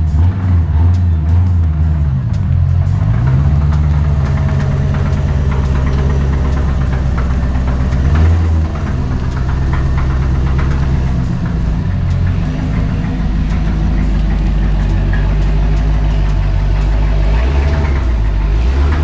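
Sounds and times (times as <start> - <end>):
car engine running slowly: 0.0 - 19.0.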